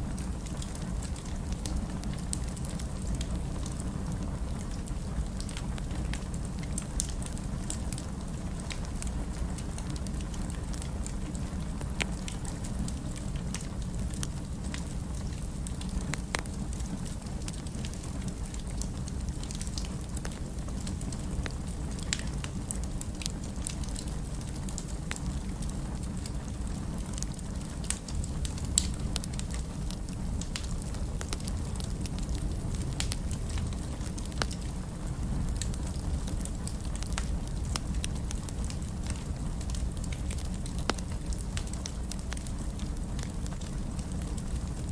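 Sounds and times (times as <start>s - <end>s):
fire crackling in fireplace: 0.0s - 44.9s.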